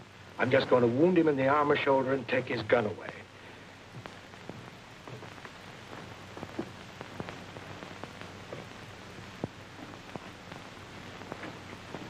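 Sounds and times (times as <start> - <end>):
crackles and pops: 0.0 - 12.0
film soundtrack hiss: 0.0 - 12.0.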